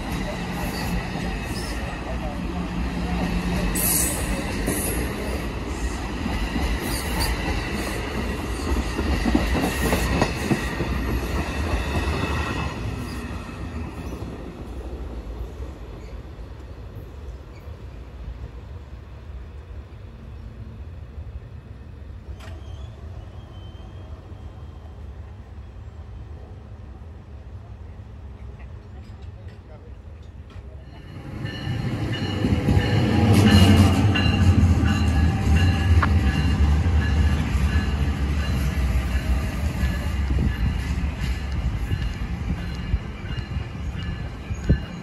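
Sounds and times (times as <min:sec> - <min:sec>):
train rumble: 0:00.0 - 0:45.0.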